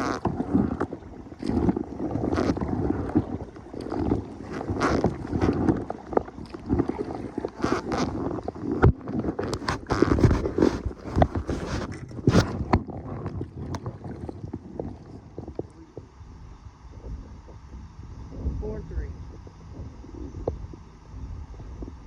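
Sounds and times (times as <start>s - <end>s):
water sloshing around kayak: 0.0s - 22.0s
wind on microphone: 0.0s - 22.0s.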